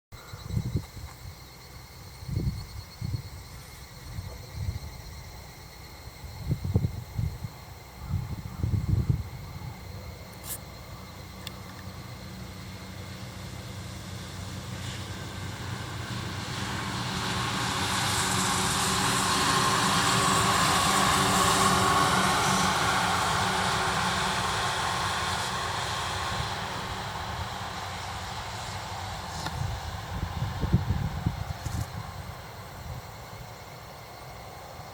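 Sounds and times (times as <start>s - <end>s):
insects trilling: 0.2s - 34.9s
electric train approaching: 0.3s - 34.9s.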